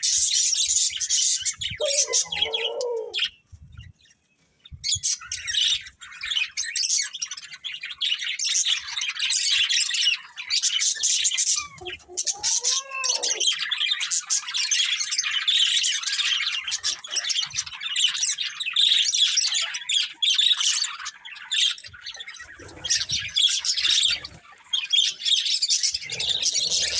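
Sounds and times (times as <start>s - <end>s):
budgerigars chattering and chirping: 0.0s - 4.0s, 4.8s - 26.9s.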